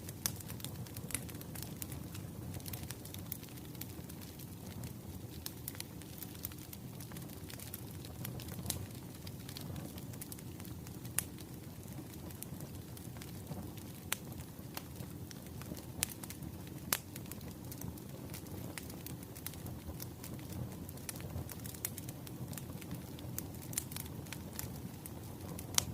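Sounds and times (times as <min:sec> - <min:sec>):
logs crackling and popping: 0:00.0 - 0:25.9
low rumble of flame: 0:00.0 - 0:25.9.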